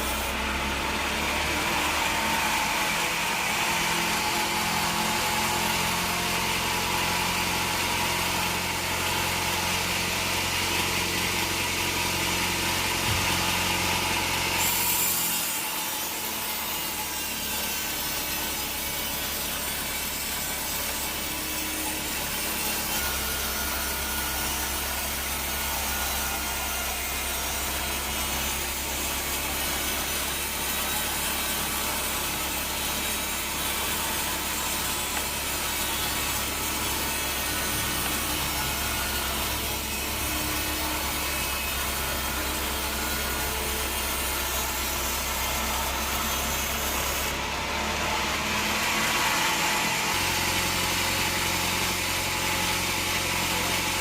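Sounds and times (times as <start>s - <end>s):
bandsaw blade sawing log: 0.0s - 54.0s.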